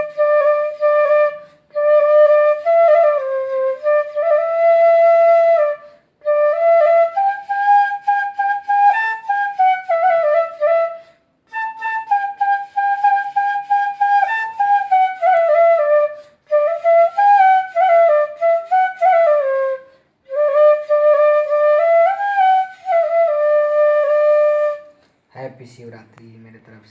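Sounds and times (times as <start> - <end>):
bamboo flute melody: 0.0 - 25.0.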